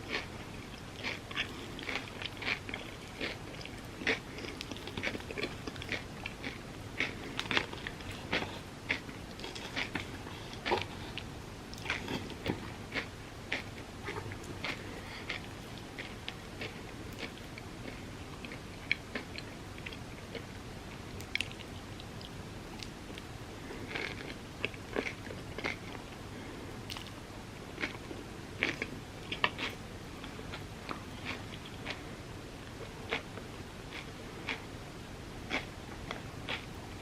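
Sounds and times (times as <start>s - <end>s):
person chewing crunchy food: 0.0s - 20.5s, 21.2s - 32.1s, 32.7s - 34.7s, 35.5s - 36.8s.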